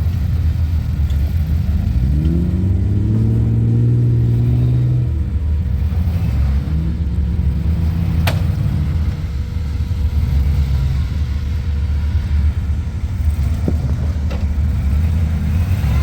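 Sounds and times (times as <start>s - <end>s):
truck engine low rumble: 0.0s - 16.0s.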